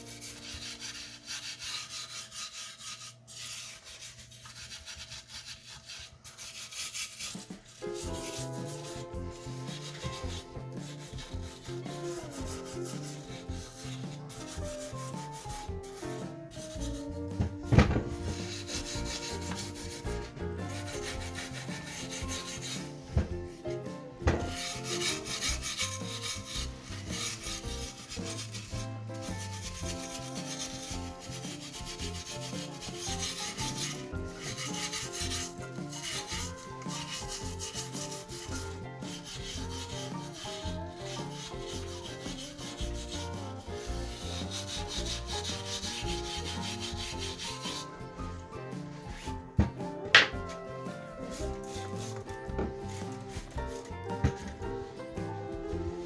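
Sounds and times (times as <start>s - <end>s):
background music: 0.0s - 2.2s, 6.4s - 56.0s
sandpaper rubbing on metal: 0.0s - 49.4s, 50.2s - 56.0s.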